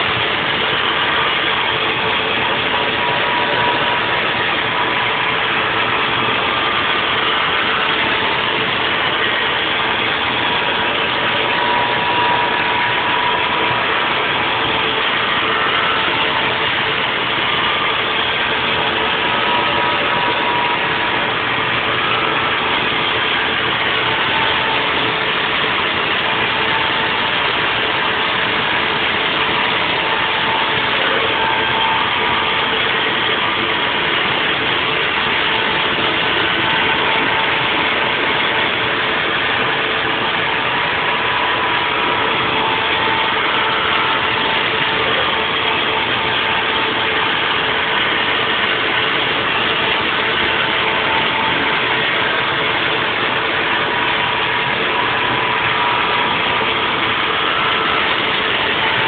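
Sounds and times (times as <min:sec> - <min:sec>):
milling machine running: 0:00.0 - 0:59.0
spindle whining: 0:00.0 - 0:59.0.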